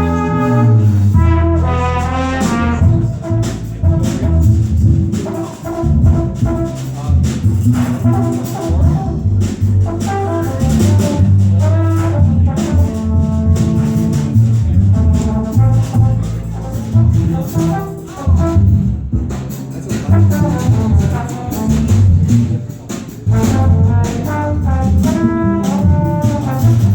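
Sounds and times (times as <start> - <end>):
bass line: 0.0 - 26.9
drums keeping time: 0.0 - 26.9
jazz group playing: 0.0 - 26.9.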